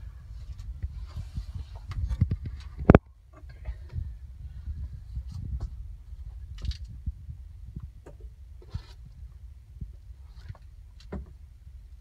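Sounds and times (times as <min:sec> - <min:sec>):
handheld camera rumble: 0:00.0 - 0:12.0.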